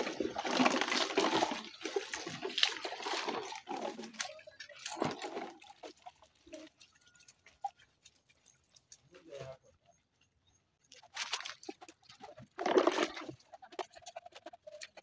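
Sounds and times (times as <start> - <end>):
water sloshing in a bucket: 0.0 - 9.7, 10.3 - 15.0.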